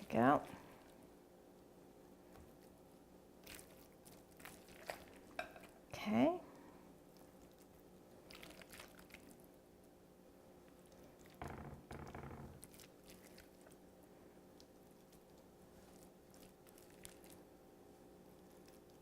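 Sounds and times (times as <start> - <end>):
soft squishing of filling: 0.0 - 5.9, 6.5 - 10.0, 10.6 - 19.0.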